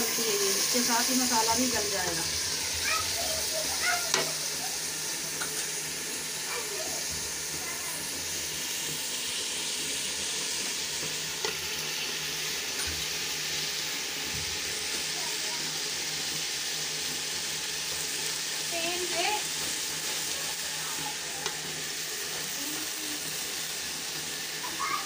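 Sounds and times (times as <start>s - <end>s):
oil sizzling in a pot: 0.0s - 25.0s.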